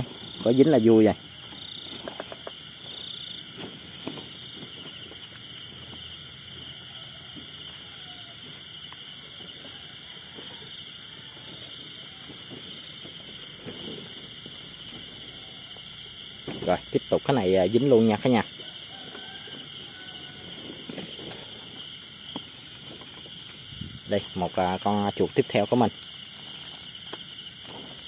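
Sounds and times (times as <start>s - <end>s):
crickets chirping: 0.0s - 28.0s
insect pulsing trill: 0.0s - 28.0s.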